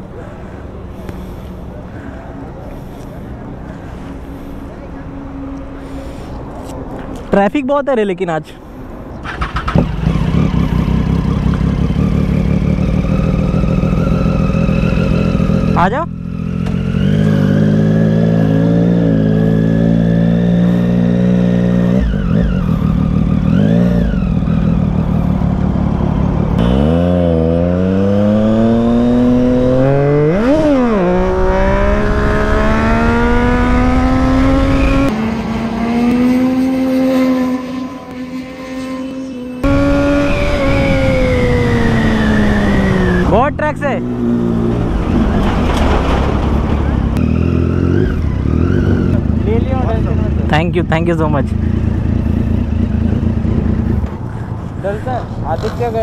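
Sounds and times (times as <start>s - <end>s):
motorcycle engine pulling hard: 9.2s - 56.0s.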